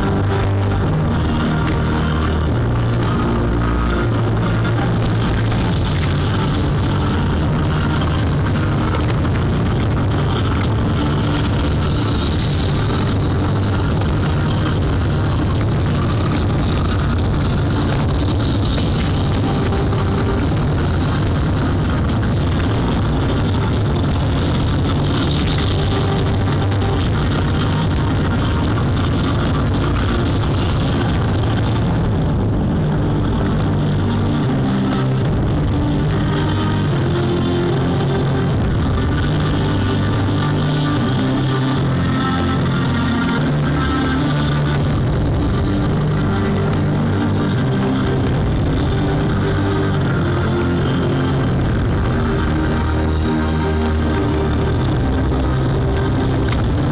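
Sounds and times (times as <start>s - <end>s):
rock music over loudspeakers: 0.0s - 56.9s.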